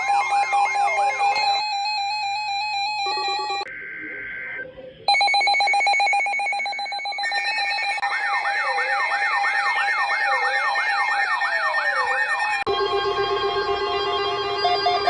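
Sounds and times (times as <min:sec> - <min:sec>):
fast yelping siren: 0:00.0 - 0:03.7, 0:05.1 - 0:15.0
rising and falling siren wail: 0:00.0 - 0:03.7, 0:06.6 - 0:15.0
steady alarm tone: 0:00.0 - 0:03.7, 0:05.1 - 0:15.0
rapidly pulsing beep: 0:00.0 - 0:04.5, 0:05.1 - 0:15.0.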